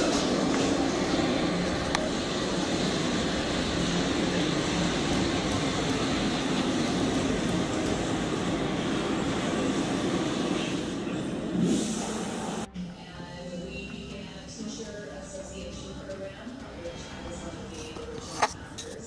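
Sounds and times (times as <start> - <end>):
ceiling fan rushing air: 0.0 - 17.8.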